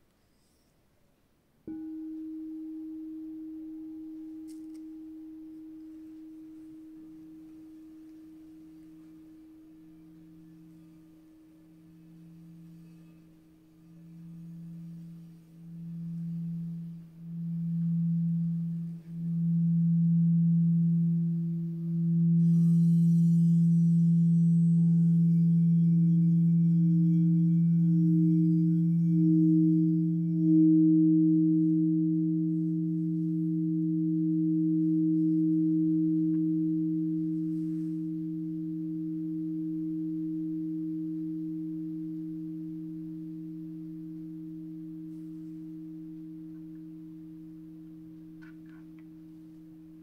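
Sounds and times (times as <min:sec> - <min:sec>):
singing bowl rubbed around rim: 0:00.0 - 0:00.9, 0:01.6 - 0:50.0
singing bowl struck and ringing: 0:01.7 - 0:48.7.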